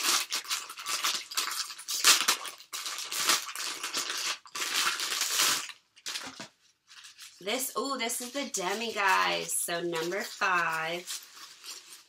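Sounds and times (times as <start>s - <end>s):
foil wrapper crackling: 0.0s - 12.0s.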